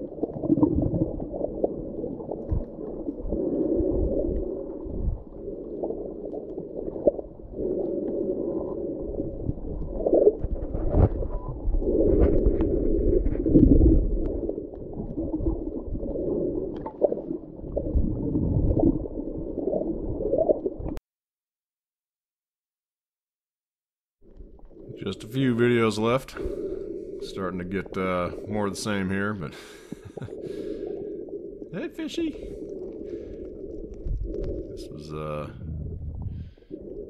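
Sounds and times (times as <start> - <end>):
muffled underwater surging water: 0.0 - 21.0, 24.2 - 37.0.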